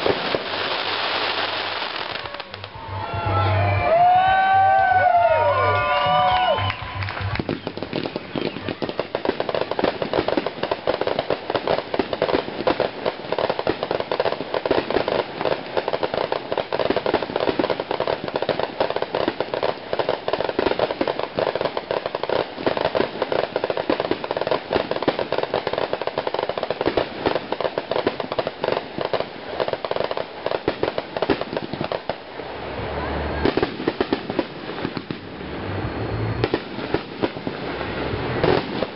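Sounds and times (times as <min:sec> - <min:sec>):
fireworks popping and banging: 0:00.0 - 0:02.9, 0:05.8 - 0:38.9.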